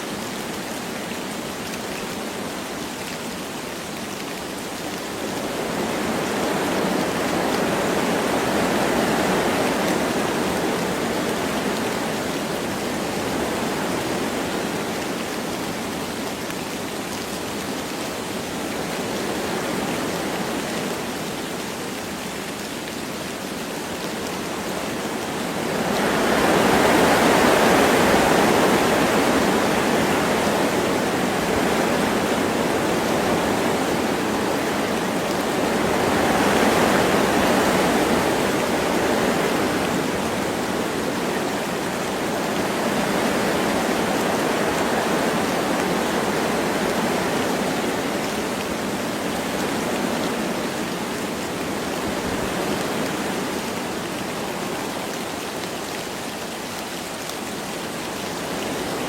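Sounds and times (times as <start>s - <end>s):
light rain falling: 0.0s - 59.0s
wind through trees: 0.0s - 59.0s.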